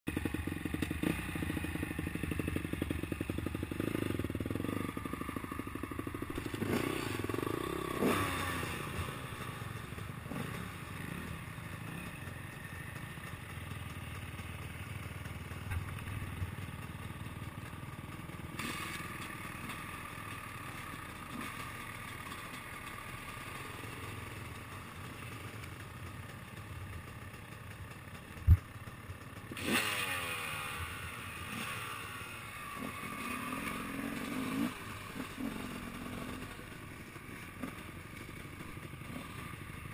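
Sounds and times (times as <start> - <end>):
dirt bike engines idling: 0.1 - 39.9.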